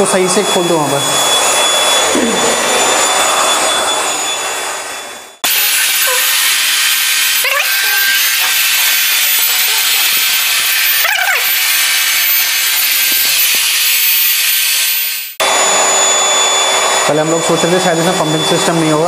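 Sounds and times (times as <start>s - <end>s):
air pump rushing hiss: 0.0s - 19.0s.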